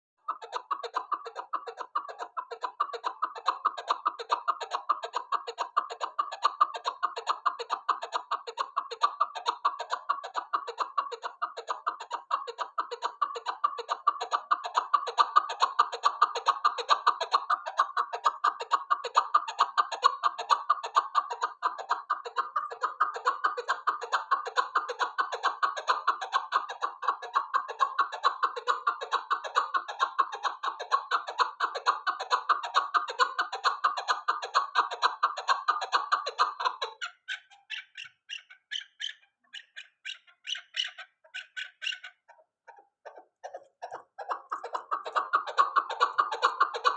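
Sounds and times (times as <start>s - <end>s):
partridge clucking call: 0.2s - 46.9s.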